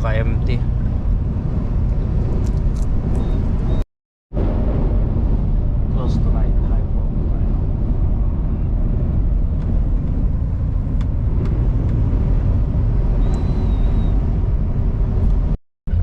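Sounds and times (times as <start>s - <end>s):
truck cab road and engine rumble: 0.0s - 3.8s, 4.4s - 16.0s.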